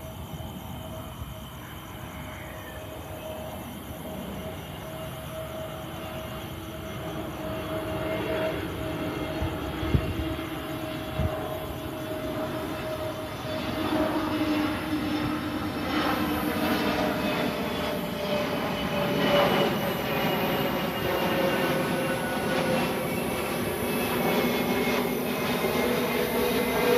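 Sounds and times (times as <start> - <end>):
jet engines whining: 2.8 - 26.9.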